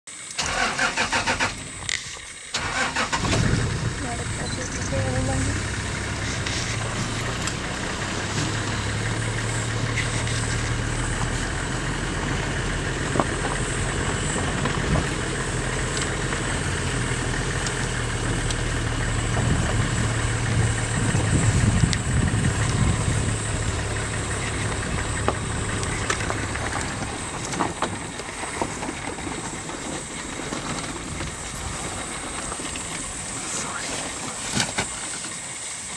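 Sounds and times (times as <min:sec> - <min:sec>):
vehicle engine idling: 0:00.1 - 0:35.9.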